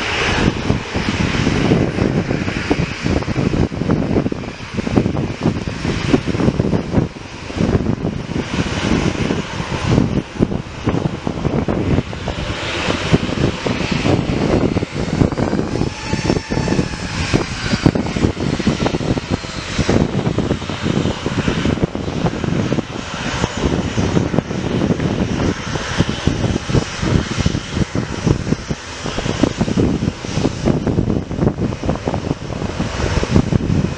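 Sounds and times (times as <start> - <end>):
aircraft engines rumbling: 0.0 - 33.9.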